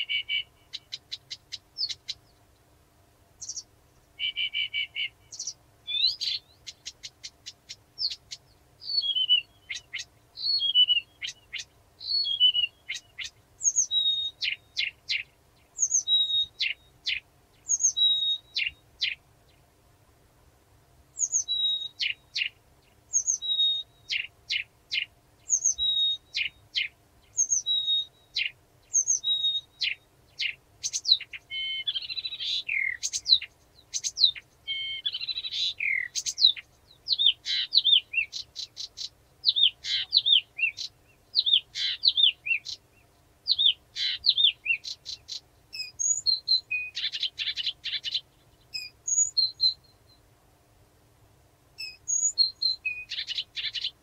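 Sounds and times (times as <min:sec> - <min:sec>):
warbler singing: 0:00.0 - 0:02.7, 0:03.4 - 0:19.7, 0:21.1 - 0:50.3, 0:51.8 - 0:54.0.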